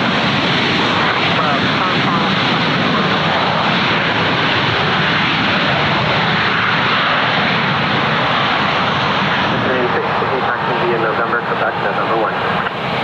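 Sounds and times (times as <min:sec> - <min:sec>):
airliner engines running: 0:00.0 - 0:13.0.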